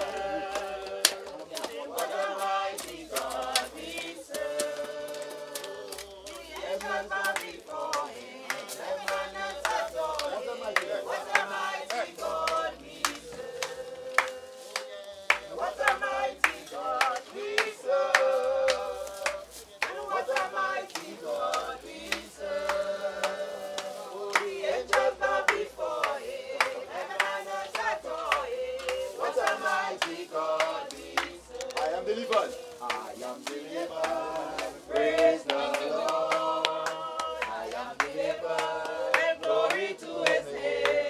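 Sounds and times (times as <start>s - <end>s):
group singing a hymn: 0.0s - 41.0s.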